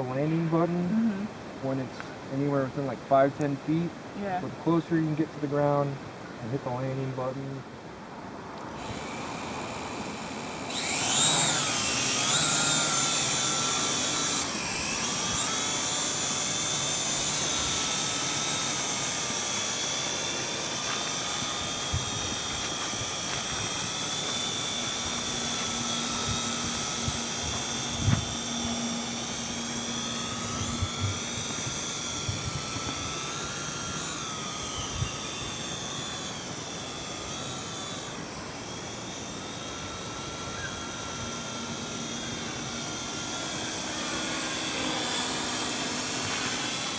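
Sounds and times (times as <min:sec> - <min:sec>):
drone propellers whining: 0:08.6 - 0:46.9.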